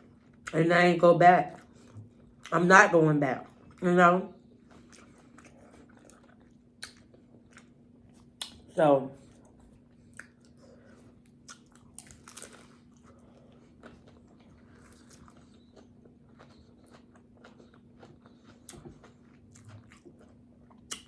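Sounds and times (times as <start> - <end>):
person chewing food: 1.5 - 2.5, 4.4 - 21.0.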